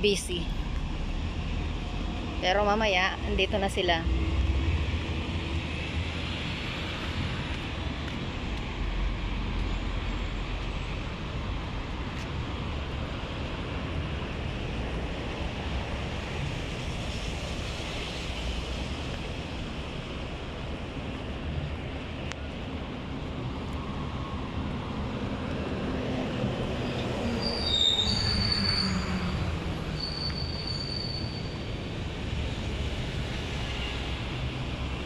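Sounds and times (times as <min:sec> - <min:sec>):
distant highway traffic: 0:00.0 - 0:35.0.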